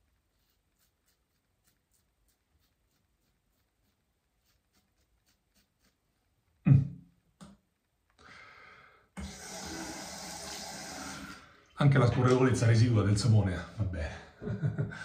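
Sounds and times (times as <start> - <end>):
soft hiss: 0.0 - 12.8.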